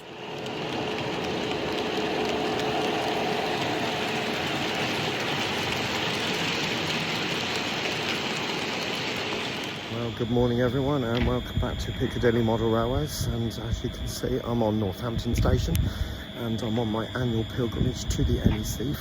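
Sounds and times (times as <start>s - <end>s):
faint whine: 0.0s - 19.0s
train rail and wheel noise: 0.0s - 19.0s.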